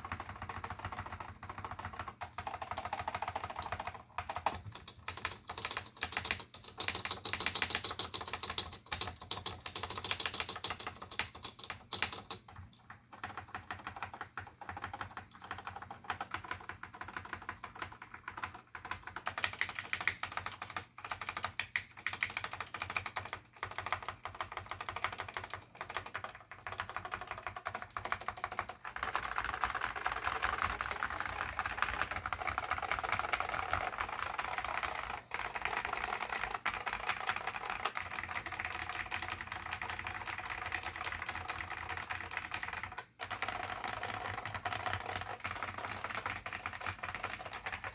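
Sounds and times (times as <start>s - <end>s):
keyboard typing clacks: 0.0s - 47.9s.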